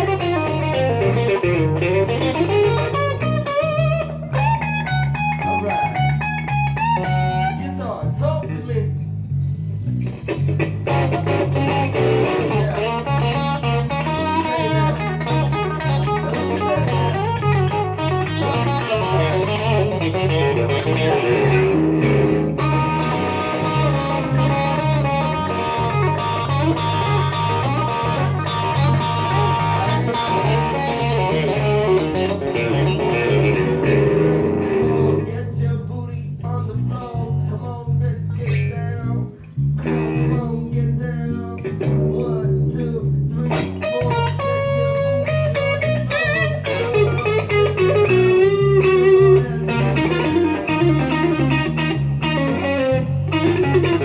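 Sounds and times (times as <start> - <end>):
electric guitar lead lines: 0.0 - 35.6, 36.5 - 54.0
electric bass riff: 0.0 - 54.0.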